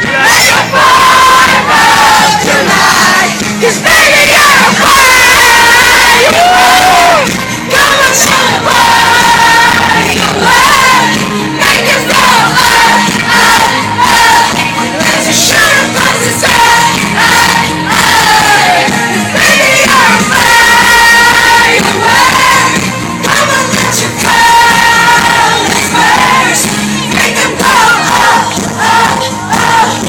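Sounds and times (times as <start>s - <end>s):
band playing with singing: 0.0s - 30.0s
crowd singing along: 0.0s - 30.0s.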